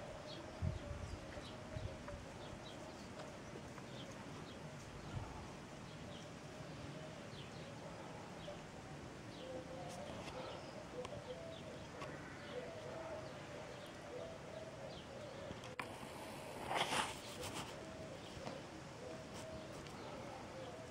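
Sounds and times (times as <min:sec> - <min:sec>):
faint steady background hiss: 0:00.0 - 0:20.9.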